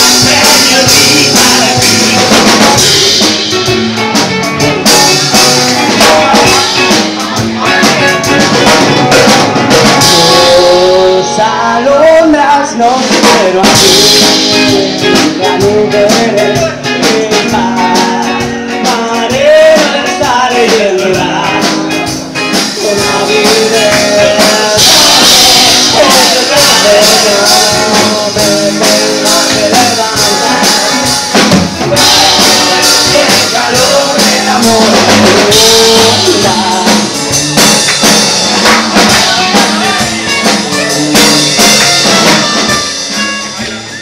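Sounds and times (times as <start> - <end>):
drum kit: 0.0 - 44.0
electric guitars: 0.0 - 44.0
person singing: 0.0 - 44.0.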